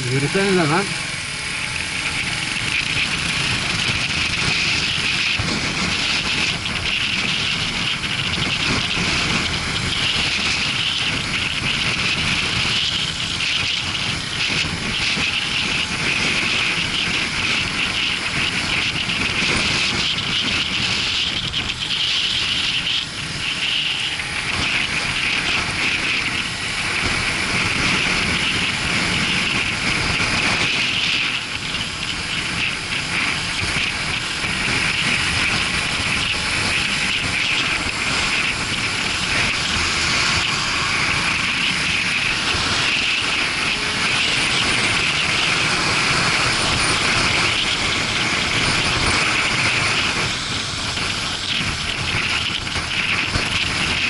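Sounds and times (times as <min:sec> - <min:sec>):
motorcycle engine running: 0:00.0 - 0:54.0
road noise: 0:00.0 - 0:54.0
wind rush: 0:00.0 - 0:54.0.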